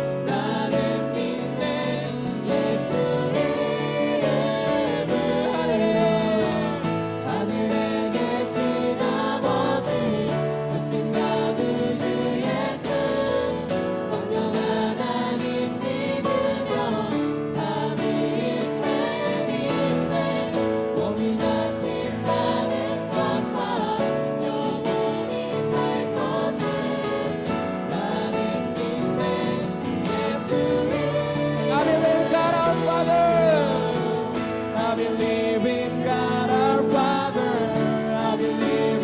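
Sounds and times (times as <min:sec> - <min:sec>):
group singing: 0:00.0 - 0:39.0
guitar accompaniment: 0:00.0 - 0:39.0.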